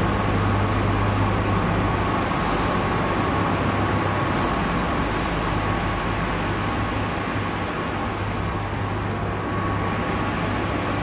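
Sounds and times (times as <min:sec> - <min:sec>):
faint steady whine: 0:00.0 - 0:11.0
machinery low hum: 0:00.0 - 0:11.0.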